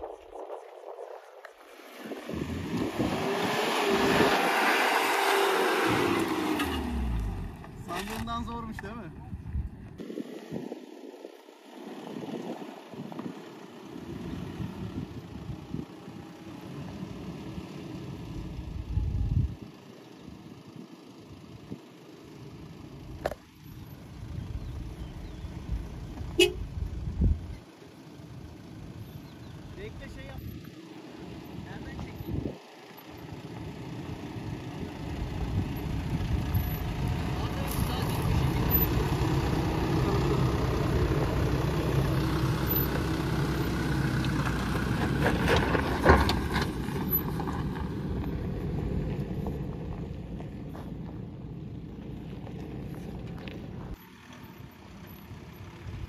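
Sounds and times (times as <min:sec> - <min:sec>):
engine low rumble: 0:00.0 - 0:56.0.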